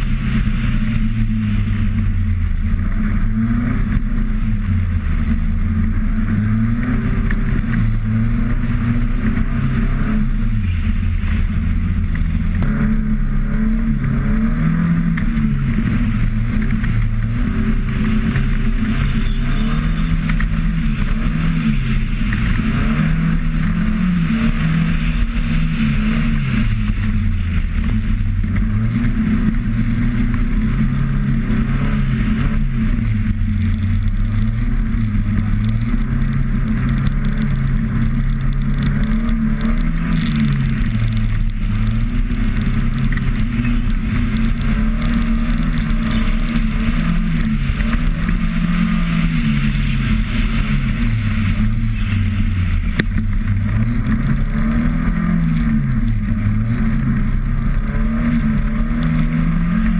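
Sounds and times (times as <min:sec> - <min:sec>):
car engine revving: 0:00.0 - 0:59.9
steady rushing hiss: 0:00.0 - 0:59.9.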